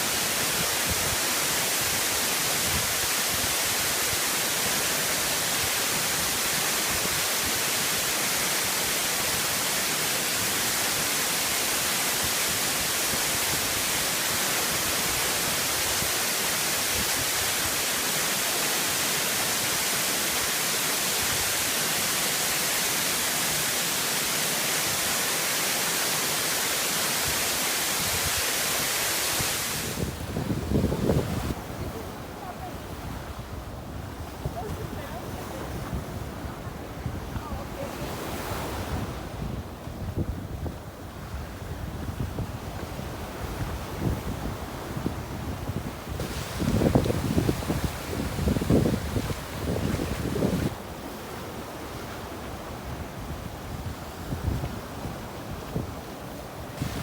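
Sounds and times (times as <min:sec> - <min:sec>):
falling water rushing: 0:00.0 - 0:33.5, 0:34.2 - 0:39.1, 0:46.2 - 0:52.8, 0:56.2 - 0:57.0.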